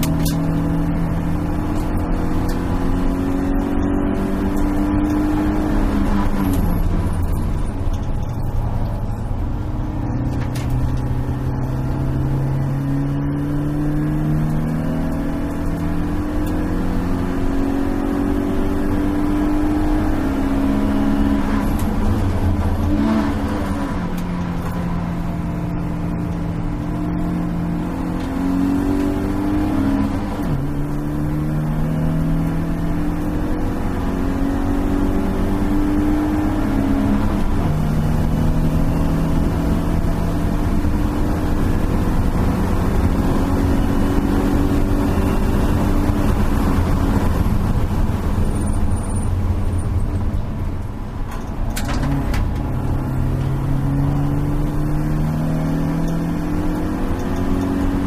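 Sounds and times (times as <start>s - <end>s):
car engine pulling under load: 0.0s - 58.0s.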